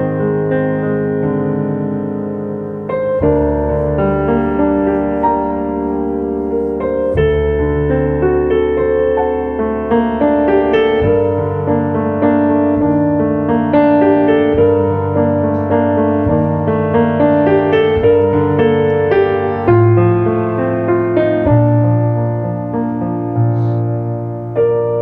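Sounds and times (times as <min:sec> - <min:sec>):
piano chords: 0:00.0 - 0:25.0.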